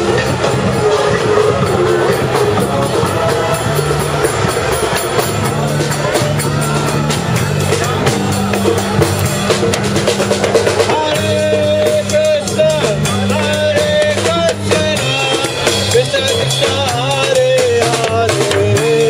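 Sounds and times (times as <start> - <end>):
person singing: 0.0 - 9.1, 10.7 - 19.0
drum kit played with sticks: 0.0 - 19.0
guitar: 0.0 - 19.0
hand drum: 0.0 - 19.0
steady bass line: 0.0 - 19.0.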